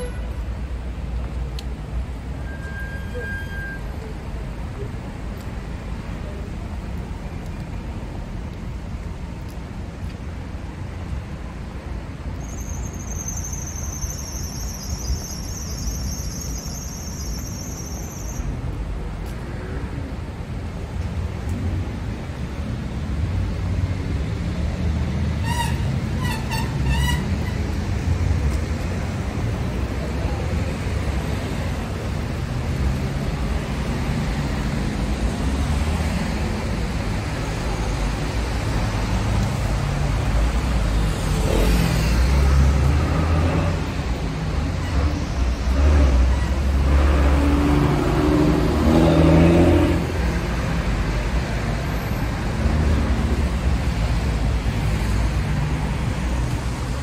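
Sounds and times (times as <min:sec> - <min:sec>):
cars passing: 0:00.0 - 0:57.0
traffic engine rumble: 0:00.0 - 0:57.0
tyres hissing on wet road: 0:01.0 - 0:57.0.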